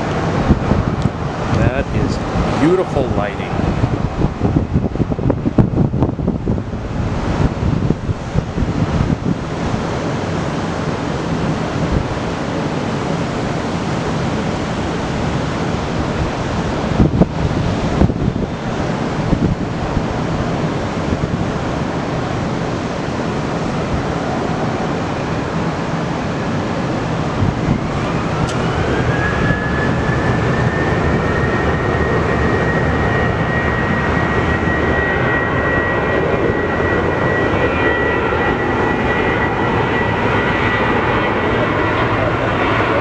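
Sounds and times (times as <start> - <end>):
jet engines running: 0.0 - 43.0
rising engine whine: 0.0 - 43.0
wind noise on microphone: 0.0 - 43.0.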